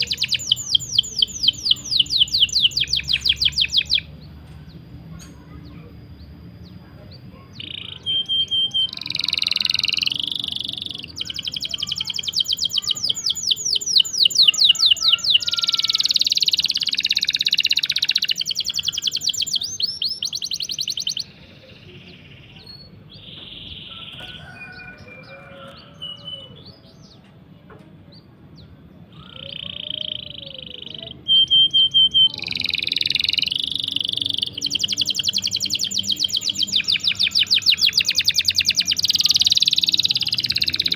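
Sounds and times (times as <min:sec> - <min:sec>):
scattered bird chirps: 0:00.0 - 0:04.1, 0:07.5 - 0:26.8, 0:29.2 - 0:40.9
songbird trilling: 0:00.0 - 0:04.2, 0:07.5 - 0:27.1, 0:29.1 - 0:40.9.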